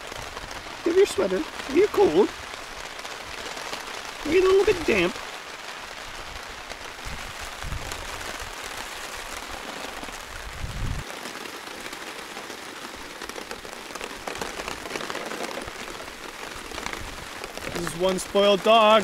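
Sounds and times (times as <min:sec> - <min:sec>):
rain on a tarp: 0:00.0 - 0:19.0.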